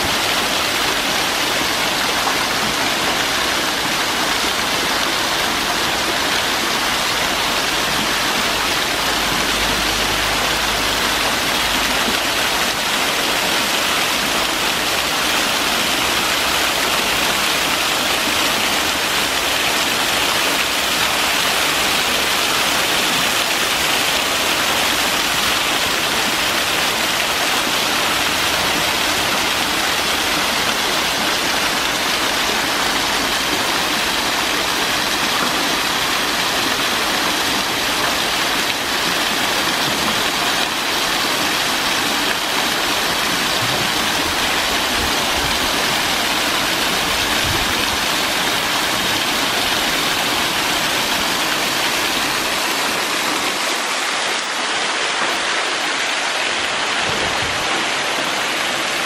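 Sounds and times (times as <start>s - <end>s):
waterfall pouring and splashing: 0.0s - 59.0s.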